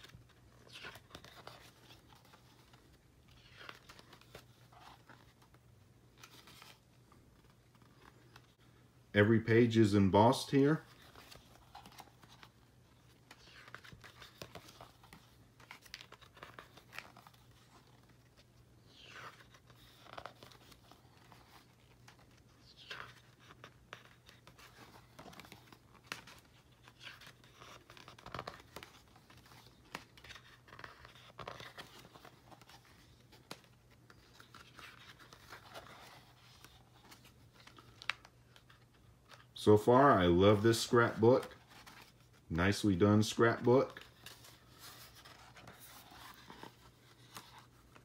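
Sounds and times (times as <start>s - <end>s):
paper pages turning: 0.0s - 48.0s.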